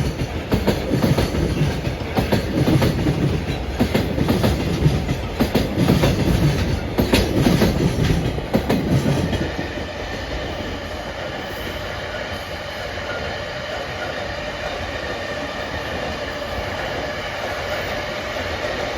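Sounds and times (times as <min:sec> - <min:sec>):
train rumbling: 0:00.0 - 0:18.9
train wheels clacking over rail joints: 0:00.0 - 0:18.9.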